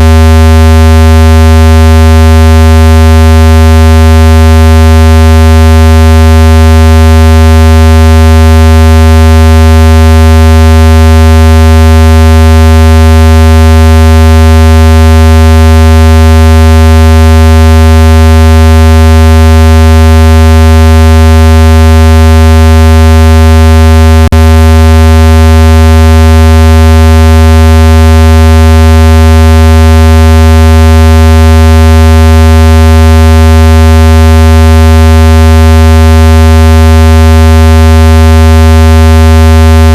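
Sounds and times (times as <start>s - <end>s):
loud low buzzing tone: 0.0s - 39.9s.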